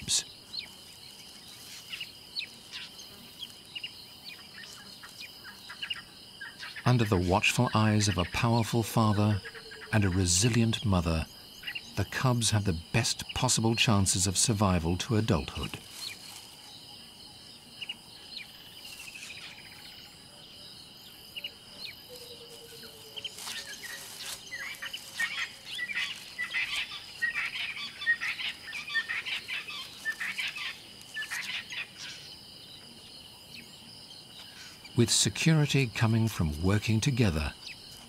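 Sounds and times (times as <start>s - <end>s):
bird chirps: 0.0s - 14.0s, 14.7s - 35.1s
high insect trill: 0.0s - 38.0s.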